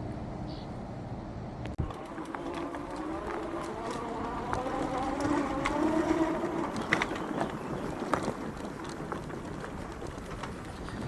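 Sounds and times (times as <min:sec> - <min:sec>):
motor running: 0:01.8 - 0:11.0.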